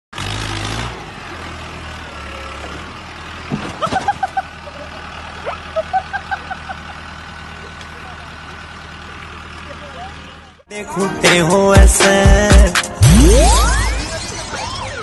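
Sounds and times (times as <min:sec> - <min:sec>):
tractor engine humming: 0:00.2 - 0:15.0.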